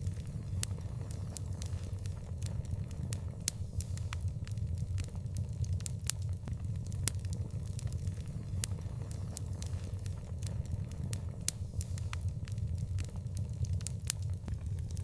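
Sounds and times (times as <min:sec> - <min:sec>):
outdoor fire crackling and popping: 0:00.0 - 0:15.0.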